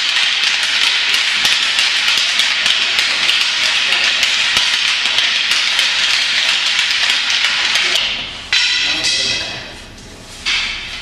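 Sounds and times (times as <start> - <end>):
fighting sticks clacking: 0.0 - 9.7, 10.3 - 11.0.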